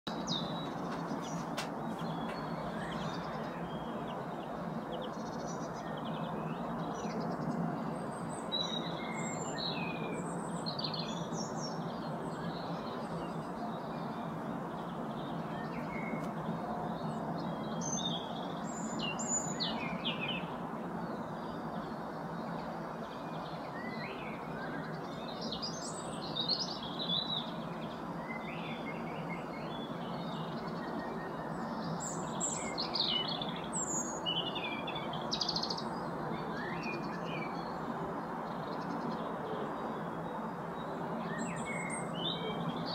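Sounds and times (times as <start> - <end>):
songbirds chirping: 0.1 - 42.9
steady background noise: 0.1 - 42.9.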